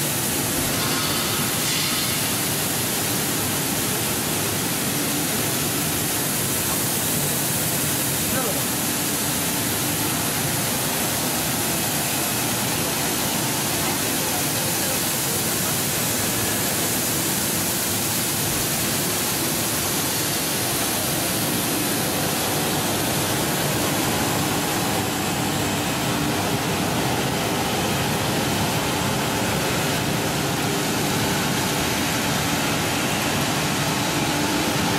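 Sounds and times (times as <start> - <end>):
water rushing from spray nozzles: 0.0 - 34.9.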